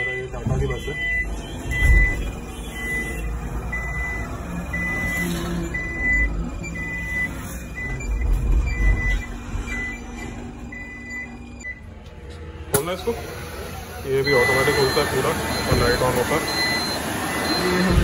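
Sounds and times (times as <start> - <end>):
reverse warning buzzer beeping: 0.0 - 11.9, 12.9 - 18.0.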